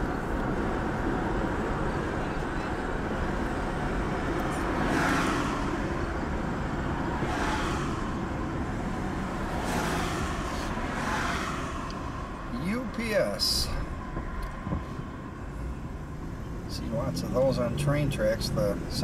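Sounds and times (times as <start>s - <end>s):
car road and engine noise: 0.0s - 19.0s
passing vehicles whooshing: 0.0s - 19.0s.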